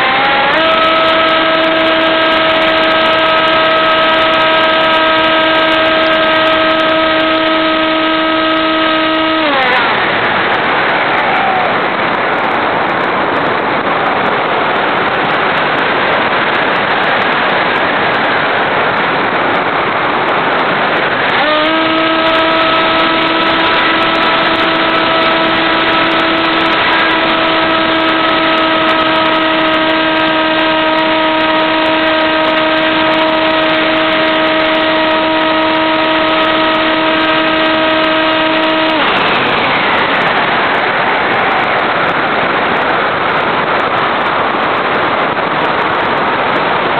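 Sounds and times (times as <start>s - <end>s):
airflow rushing: 0.0s - 46.9s
electric motor and propeller whine: 0.0s - 46.9s.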